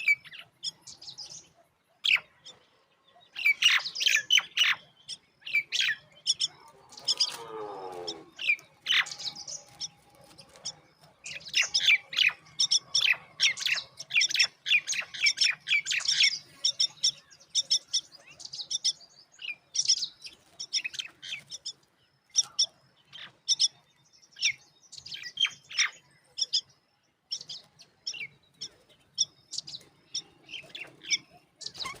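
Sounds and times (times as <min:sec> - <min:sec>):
bird chicks chirping: 0:00.0 - 0:32.0.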